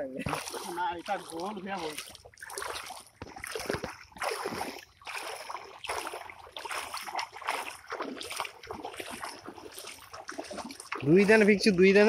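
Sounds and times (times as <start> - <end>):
legs wading through water: 0.0 - 12.0.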